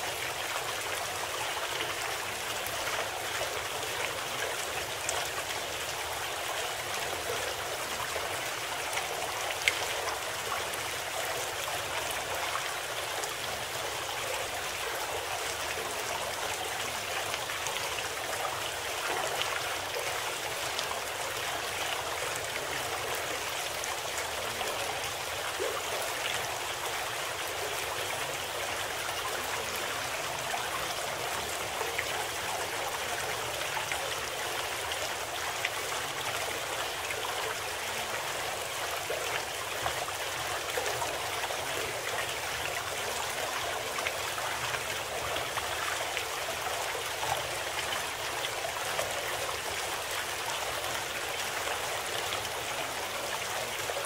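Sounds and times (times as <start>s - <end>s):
babbling stream: 0.0s - 54.0s.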